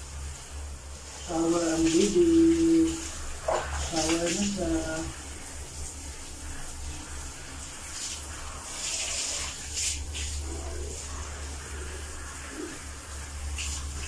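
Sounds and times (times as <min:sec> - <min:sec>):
shower spray splashing: 0:00.0 - 0:14.0.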